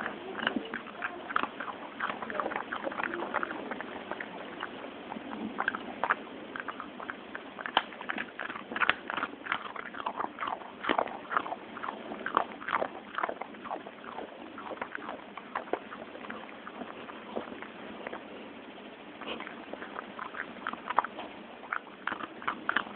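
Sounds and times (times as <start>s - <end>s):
dog chewing treats: 0.0s - 18.4s, 19.2s - 22.9s.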